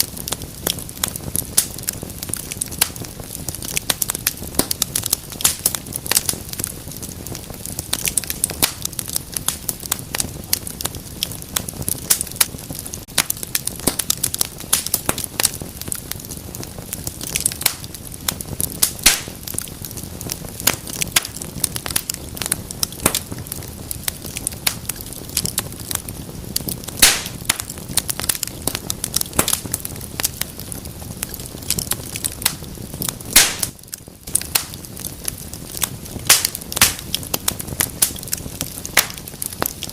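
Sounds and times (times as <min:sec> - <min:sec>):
fire hissing: 0:00.0 - 0:39.9
loud fire pops: 0:00.0 - 0:39.9
wood fire crackling: 0:00.0 - 0:39.9.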